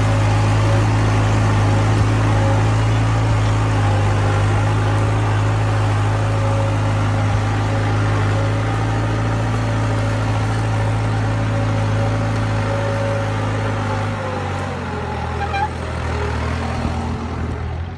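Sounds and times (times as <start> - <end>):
tractor diesel engine under load: 0.0 - 17.9.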